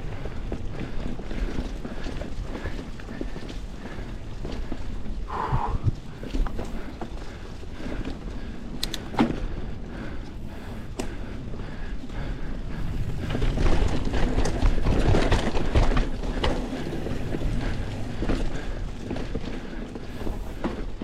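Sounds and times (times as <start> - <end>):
bike clattering over bumps: 0.0 - 21.0
bike tyres on dirt trail: 0.0 - 21.0.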